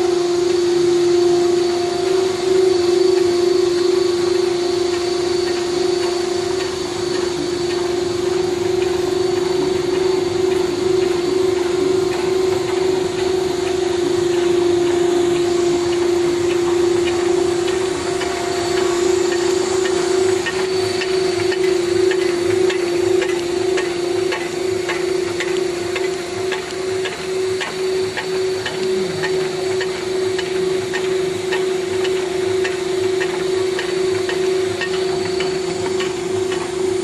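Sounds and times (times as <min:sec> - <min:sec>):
machine hum with held tone: 0:00.0 - 0:37.0.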